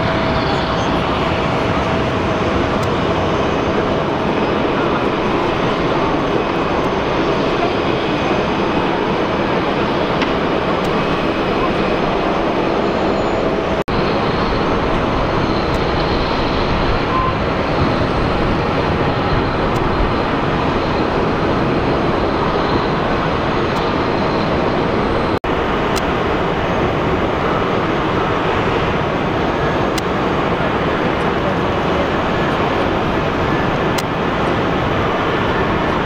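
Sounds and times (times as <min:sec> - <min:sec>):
jet engines rushing: 0:00.0 - 0:36.0.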